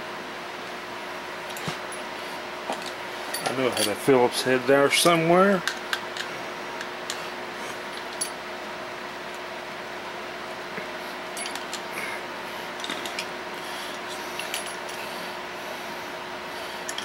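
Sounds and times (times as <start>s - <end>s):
steady hiss with hum: 0.0s - 17.0s.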